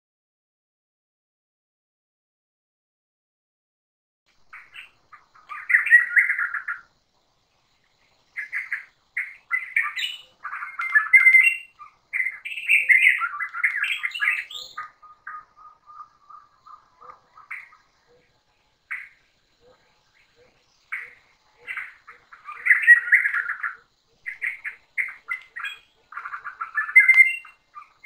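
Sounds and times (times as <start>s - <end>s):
forest birds chirping and squawking: 4.3s - 28.0s.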